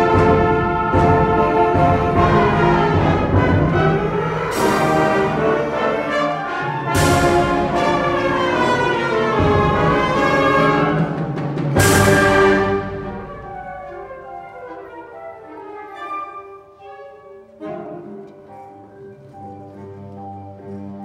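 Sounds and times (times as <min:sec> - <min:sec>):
wind band playing chords: 0:00.0 - 0:21.0.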